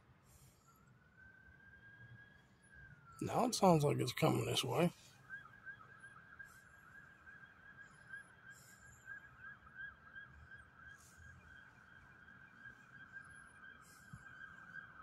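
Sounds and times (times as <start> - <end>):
faint ambulance siren yelping: 0.3 - 15.0.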